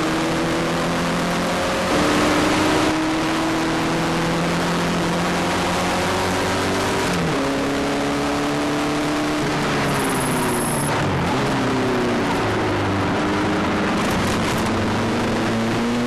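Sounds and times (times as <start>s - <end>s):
racing car engine accelerating: 0.0s - 16.0s.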